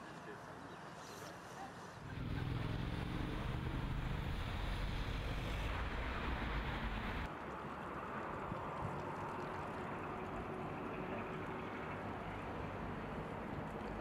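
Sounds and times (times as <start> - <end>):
street traffic rumble: 0.2 - 14.0.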